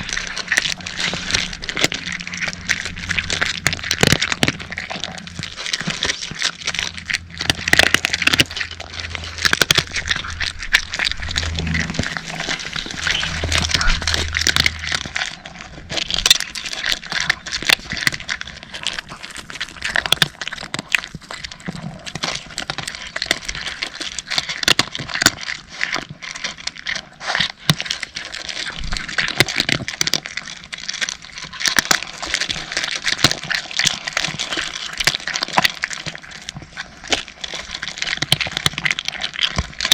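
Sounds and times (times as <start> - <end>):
cats crunching dry kibble: 0.0 - 39.9.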